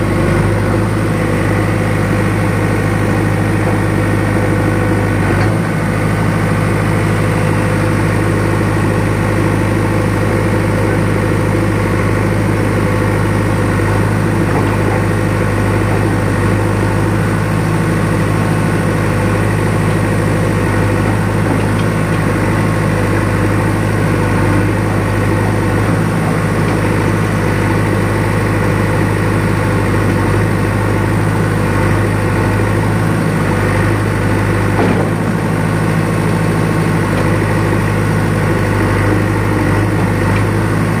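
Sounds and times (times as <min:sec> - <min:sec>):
diesel engine running steadily: 0:00.0 - 0:41.0.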